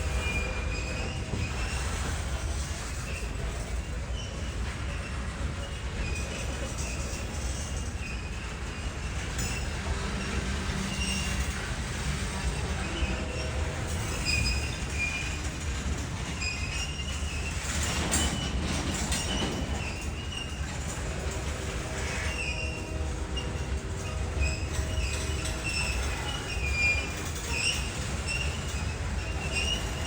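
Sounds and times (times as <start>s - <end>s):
train rumbling on rails: 0.0s - 30.0s
train wheel squeals: 0.0s - 30.0s.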